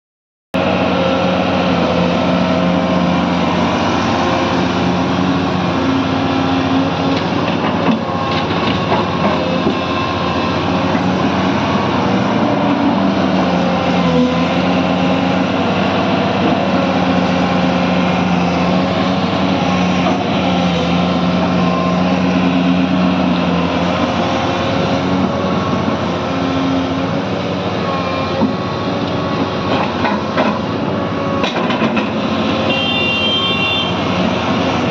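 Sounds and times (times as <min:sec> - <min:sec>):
excavator diesel engine running: 0:00.6 - 0:34.9.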